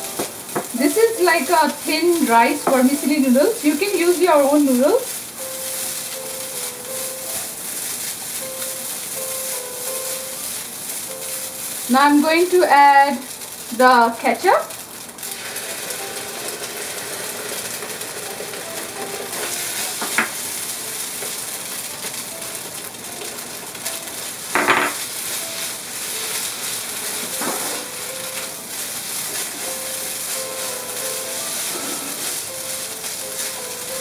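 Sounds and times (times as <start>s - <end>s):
vegetables sizzling in a frying pan: 0.0s - 34.0s.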